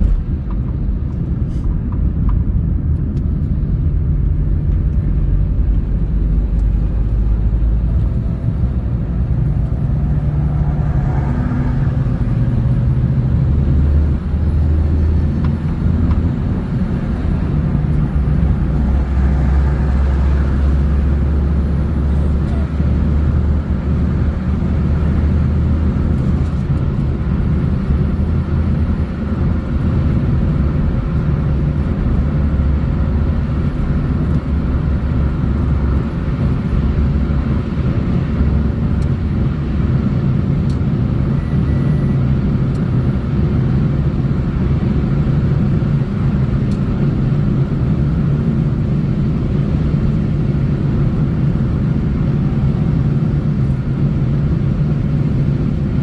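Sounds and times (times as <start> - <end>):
car driving on road: 0.0 - 56.0.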